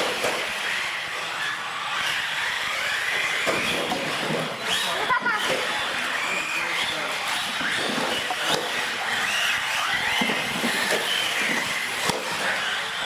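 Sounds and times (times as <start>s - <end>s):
toy car motors whining: 0.0s - 13.0s.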